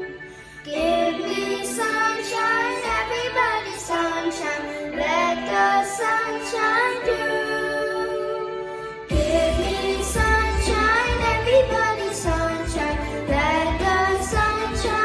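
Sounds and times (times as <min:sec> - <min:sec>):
musical accompaniment: 0:00.0 - 0:15.0
children singing: 0:00.6 - 0:15.0.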